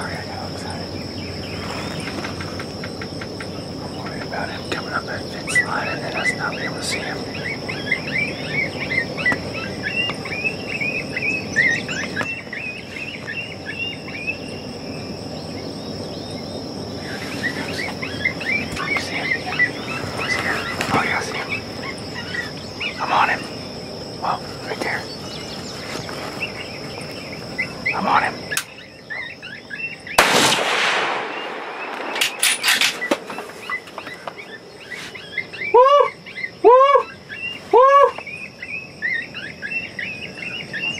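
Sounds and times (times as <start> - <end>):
insects droning: 0.0 - 40.9
short chirping calls: 3.4 - 40.9.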